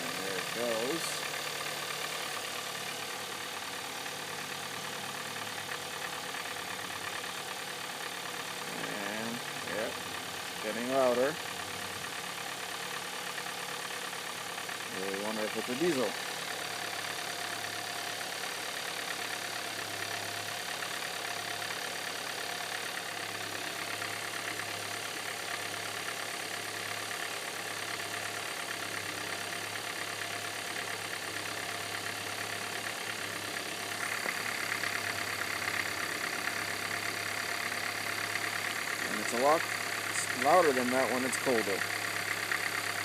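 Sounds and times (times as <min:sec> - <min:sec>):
engine idling with knocking clatter: 0:00.0 - 0:43.0.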